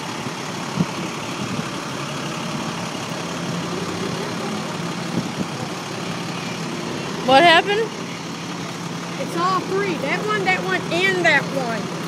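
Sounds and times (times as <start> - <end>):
large engine idling: 0.0 - 12.0
traffic noise: 0.0 - 12.0.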